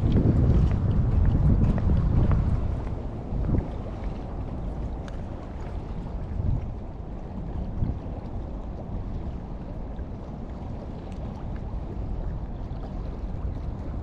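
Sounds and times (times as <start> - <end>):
waves lapping against rocks: 0.0 - 14.0
wind noise on microphone: 0.0 - 14.0.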